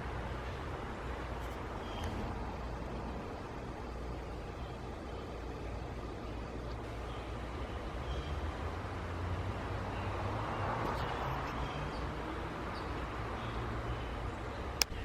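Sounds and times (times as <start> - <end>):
motor traffic rumble: 0.0 - 15.0.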